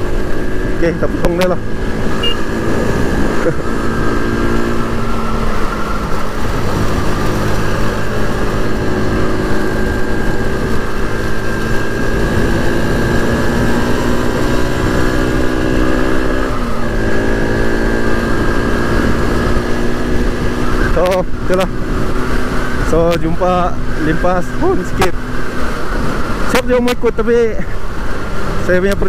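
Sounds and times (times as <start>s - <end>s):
scooter engine running: 0.0s - 26.5s
wind rumble on microphone: 0.0s - 29.0s.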